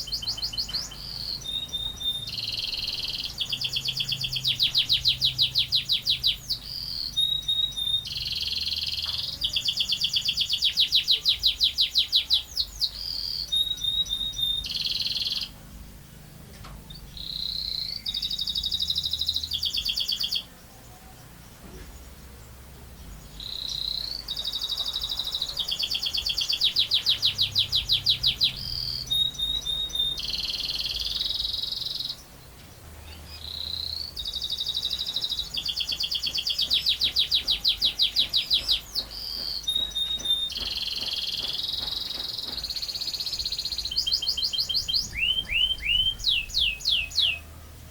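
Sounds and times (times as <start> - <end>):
canary singing trills: 0.0 - 16.0, 16.8 - 47.9.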